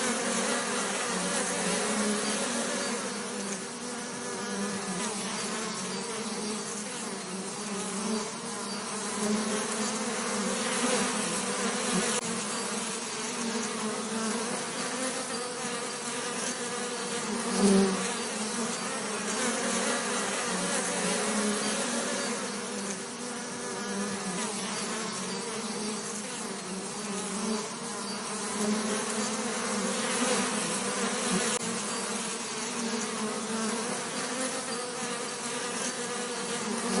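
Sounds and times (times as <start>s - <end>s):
bees buzzing: 0.0s - 37.0s.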